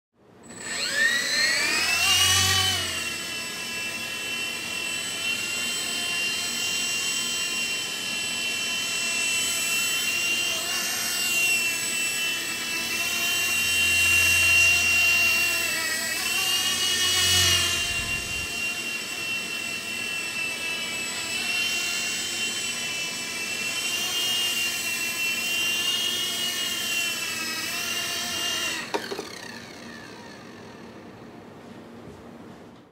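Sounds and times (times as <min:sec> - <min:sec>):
model helicopter motor whine: 0:00.4 - 0:31.2.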